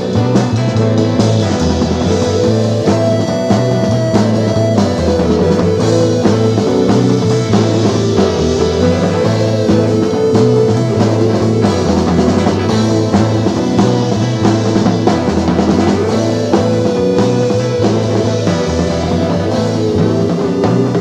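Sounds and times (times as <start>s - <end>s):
instrumental garage rock music: 0.0s - 21.0s.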